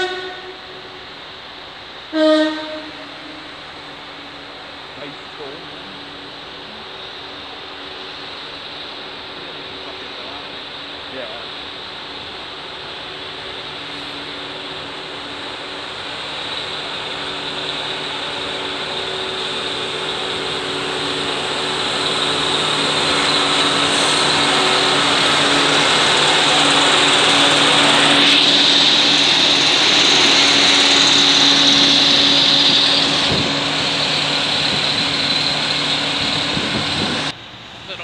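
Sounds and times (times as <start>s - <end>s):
strong high hiss: 0.0s - 38.0s
wheel and rail noise: 2.8s - 38.0s.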